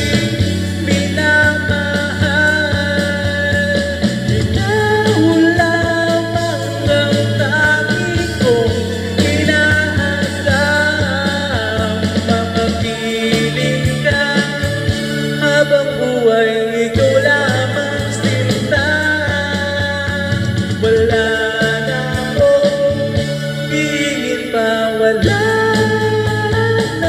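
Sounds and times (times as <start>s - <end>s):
backing track with bass line: 0.0s - 27.0s
man singing into a microphone: 0.0s - 27.0s.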